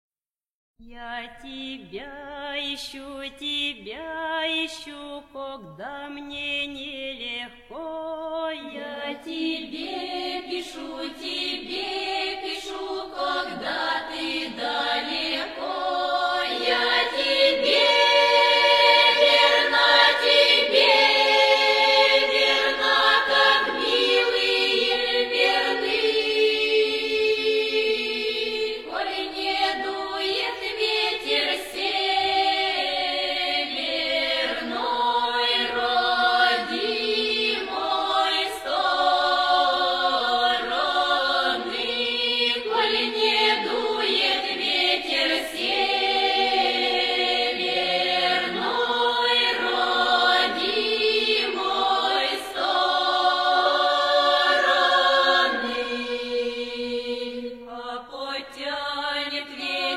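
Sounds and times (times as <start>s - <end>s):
choir-like singing music: 0.8s - 59.9s.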